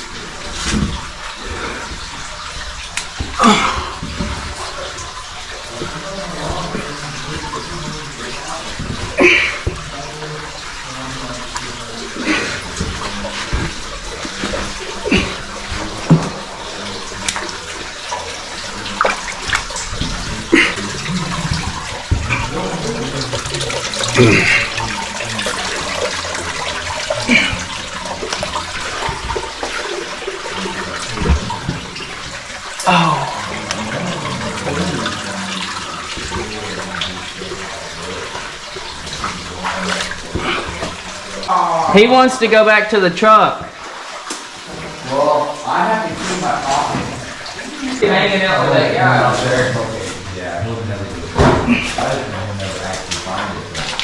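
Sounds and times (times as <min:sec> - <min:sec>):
sharp water splashes: 0:00.0 - 0:50.4
water sloshing from wading: 0:00.0 - 0:54.0.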